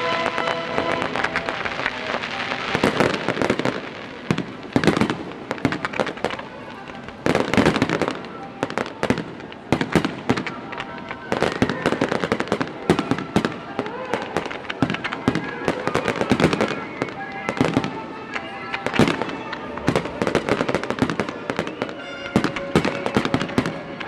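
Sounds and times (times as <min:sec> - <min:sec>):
fireworks cracking and crackling: 0:00.0 - 0:24.0.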